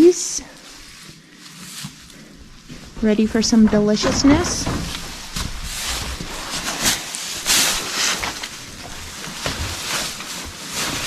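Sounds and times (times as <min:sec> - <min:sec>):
dry hay rustling and crackling: 0:00.7 - 0:11.0.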